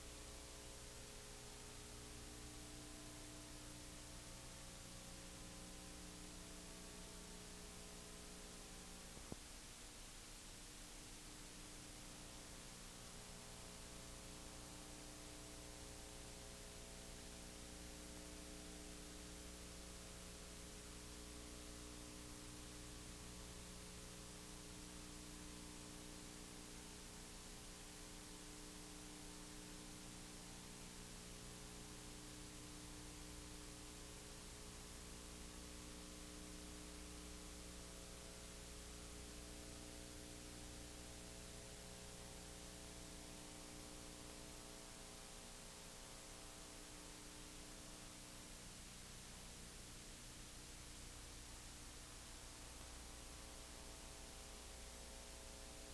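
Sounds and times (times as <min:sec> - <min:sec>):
electrical hum with hiss: 0:00.0 - 0:55.9.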